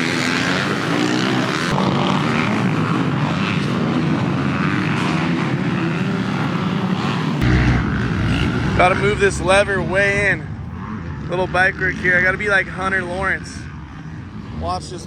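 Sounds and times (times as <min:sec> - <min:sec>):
dirt bike engines buzzing: 0:00.0 - 0:15.0.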